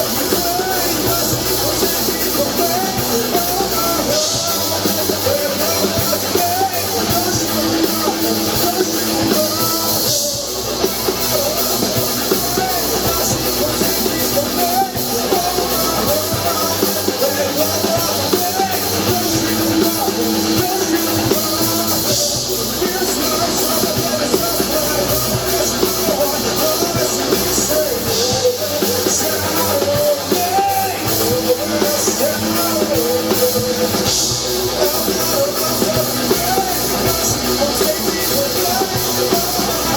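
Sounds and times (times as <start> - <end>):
person singing: 0.0 - 39.9
rock band playing live: 0.0 - 39.9.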